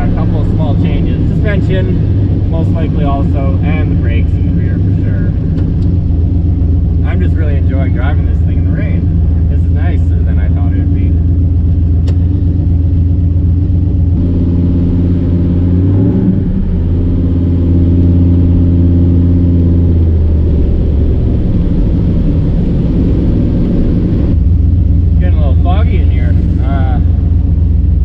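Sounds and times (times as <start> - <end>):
car engine drone in cabin: 0.0 - 28.0.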